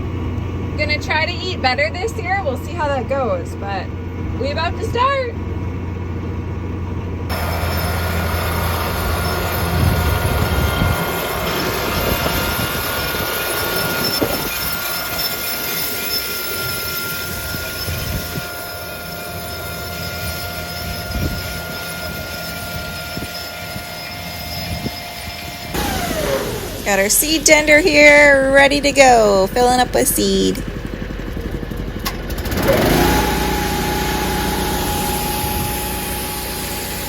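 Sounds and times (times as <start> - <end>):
planter high whine: 0.0 - 37.0
tractor engine rumble: 0.0 - 37.0.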